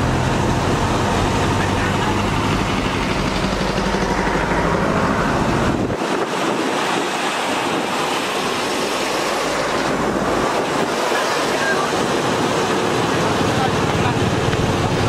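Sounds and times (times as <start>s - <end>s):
diesel engine humming: 0.0s - 15.0s
loud rushing noise: 0.0s - 15.0s.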